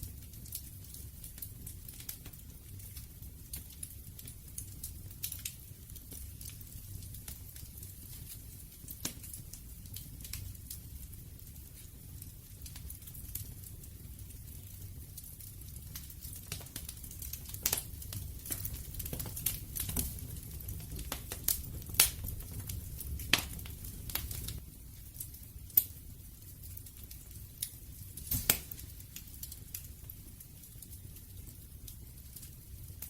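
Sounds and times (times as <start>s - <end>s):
rumble of flames: 0.0s - 33.0s
wood fire crackling: 0.0s - 33.0s.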